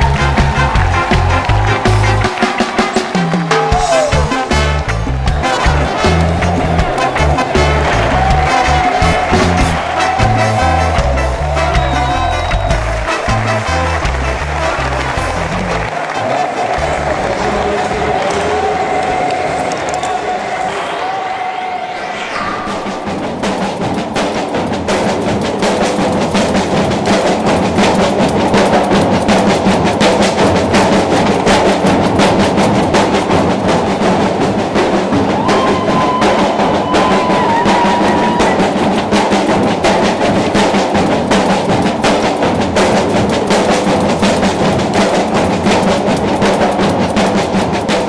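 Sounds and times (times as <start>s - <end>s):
bass drums beaten with mallets: 0.0s - 2.4s, 3.2s - 15.9s, 22.8s - 48.0s.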